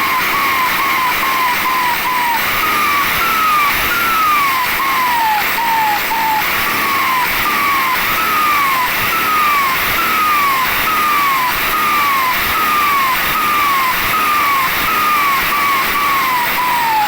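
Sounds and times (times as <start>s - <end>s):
turbocharger singing: 0.0s - 17.0s.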